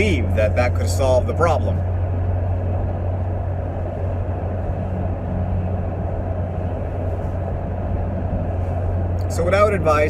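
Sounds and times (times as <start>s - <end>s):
vehicle low rumble: 0.0s - 10.0s.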